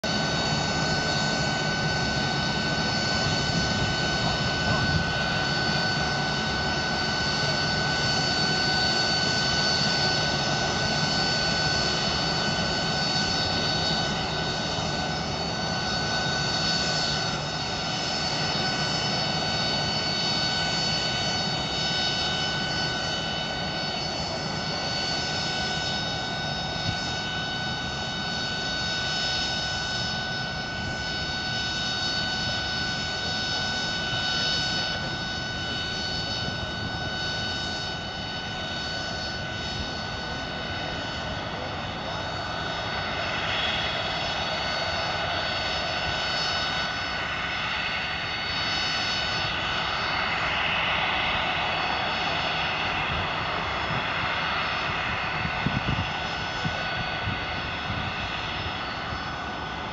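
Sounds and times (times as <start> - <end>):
jet turbine whine at idle: 0.0 - 59.9.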